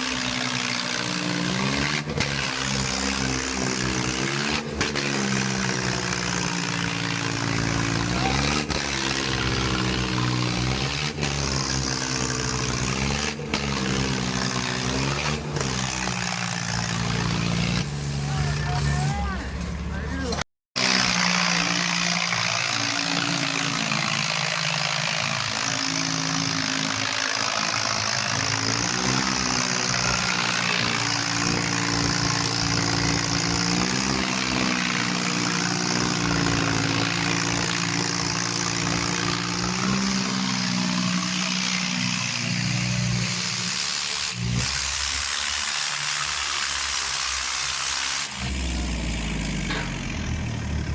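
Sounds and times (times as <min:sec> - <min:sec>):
tractor diesel engines under load: 0:00.0 - 0:50.9.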